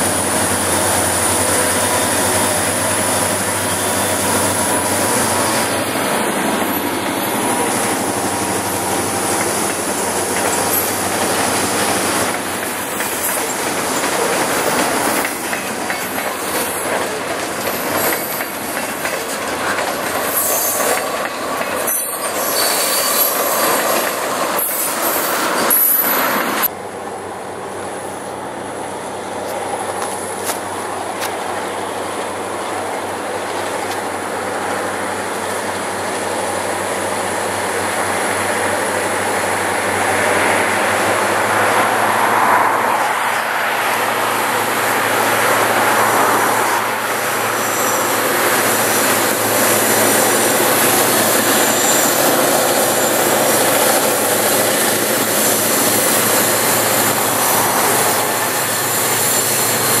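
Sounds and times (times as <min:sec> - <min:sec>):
diesel locomotive engines: 0:00.0 - 1:00.0.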